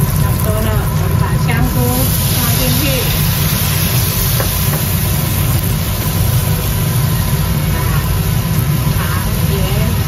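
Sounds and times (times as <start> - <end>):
loud steady low hum: 0.0 - 10.0
mushrooms sizzling in hot oil: 0.0 - 10.0.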